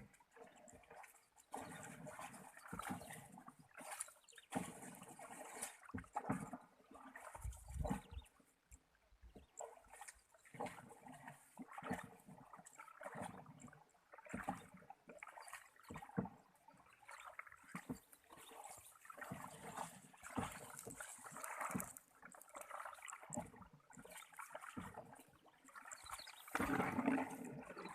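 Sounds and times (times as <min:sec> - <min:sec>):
water splashing around boat: 0:00.0 - 0:27.9.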